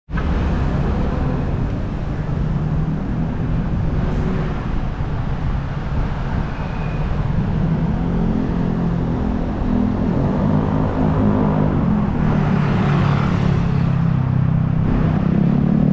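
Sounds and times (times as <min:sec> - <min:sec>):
road traffic rumble: 0:00.1 - 0:15.9.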